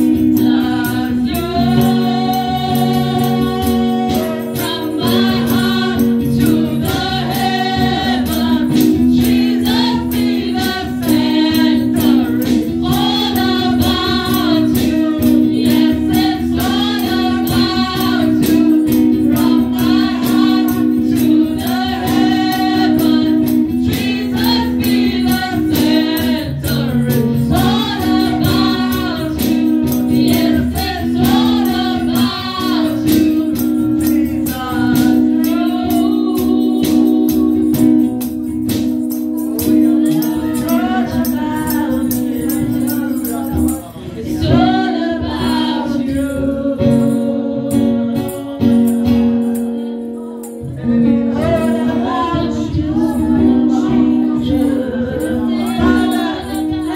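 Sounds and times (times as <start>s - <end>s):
woman singing lead: 0.0s - 56.9s.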